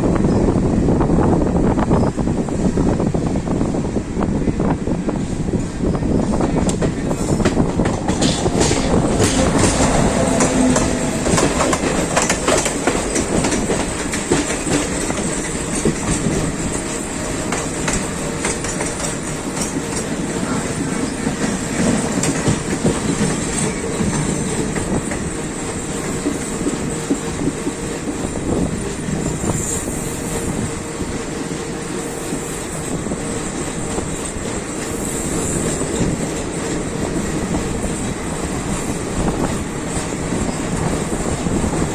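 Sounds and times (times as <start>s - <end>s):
train rumble: 0.0s - 41.9s
train wheels clicking over rail joints: 6.2s - 41.9s.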